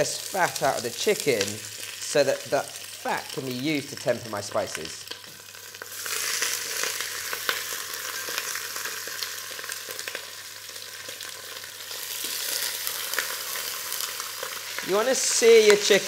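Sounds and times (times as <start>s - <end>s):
chicken sizzling in a pot: 0.0s - 16.0s
fat crackling and popping: 0.0s - 16.0s.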